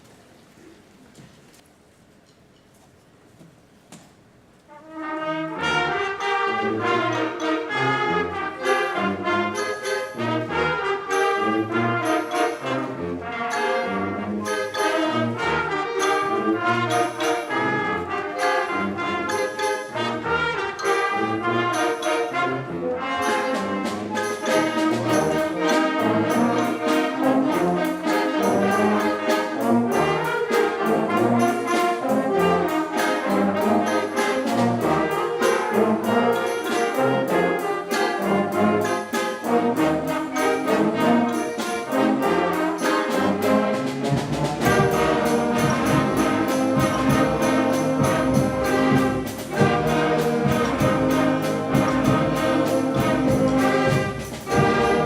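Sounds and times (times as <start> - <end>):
school concert band playing: 4.6 - 55.0.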